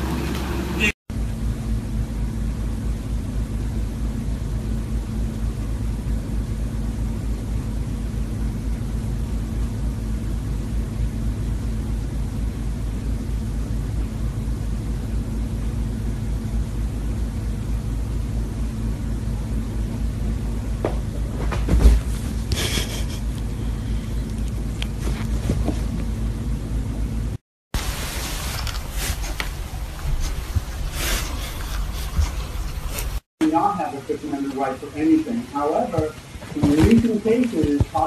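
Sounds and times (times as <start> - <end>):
faint hum: 0.0 - 38.0.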